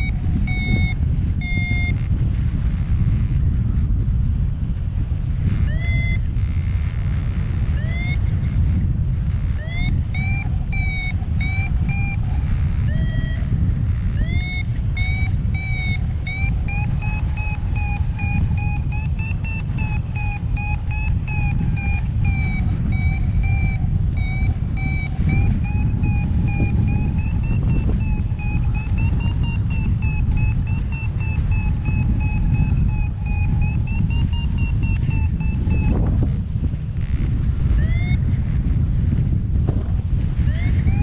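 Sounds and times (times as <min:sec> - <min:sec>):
variometer beeping: 0:00.0 - 0:04.4, 0:05.0 - 0:41.0
wind rushing over microphone: 0:00.0 - 0:41.0.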